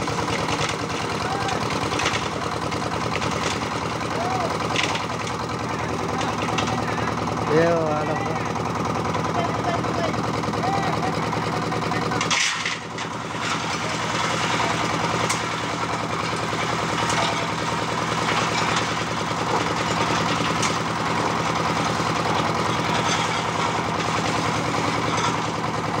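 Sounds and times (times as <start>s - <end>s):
concrete mixer engine running: 0.0s - 26.0s.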